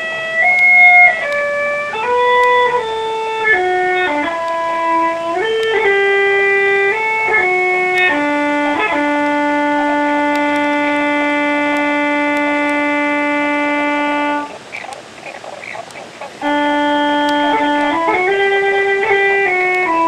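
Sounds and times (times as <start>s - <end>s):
slow instrumental music: 0.0s - 20.0s.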